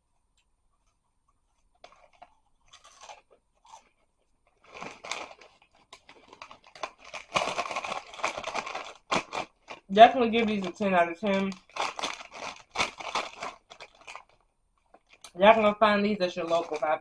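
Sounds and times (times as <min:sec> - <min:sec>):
crunching and chewing crispy snack: 0:00.8 - 0:15.7.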